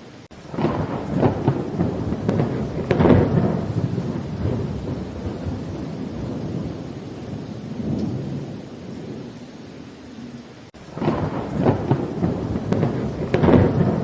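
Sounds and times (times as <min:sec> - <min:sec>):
steady rain: 0:00.0 - 0:14.0
thunder clap and rumble: 0:00.3 - 0:09.4, 0:10.8 - 0:14.0.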